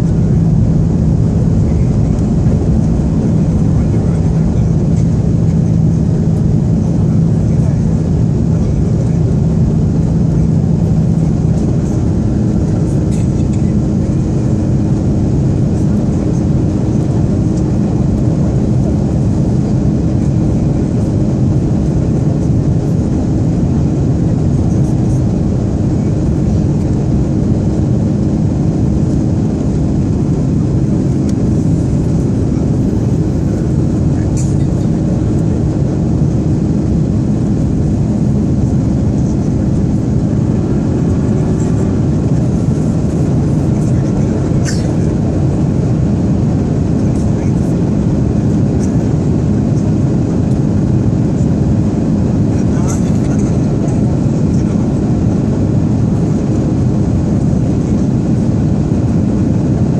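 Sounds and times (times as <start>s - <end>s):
jet engine drone: 0.0s - 59.9s
low hum: 0.0s - 59.9s.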